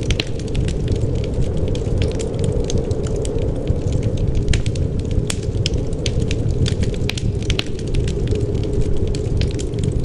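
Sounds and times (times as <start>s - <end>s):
low rumble: 0.0s - 10.0s
wood fire crackling: 0.0s - 10.0s.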